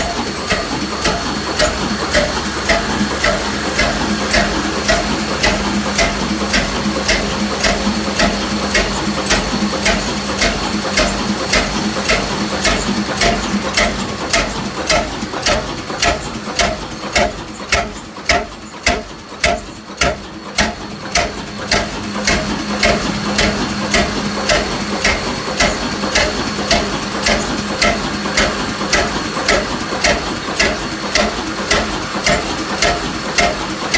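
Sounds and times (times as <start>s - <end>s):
old engine running slowly: 0.0s - 33.9s
regular mechanical knock: 0.0s - 33.9s.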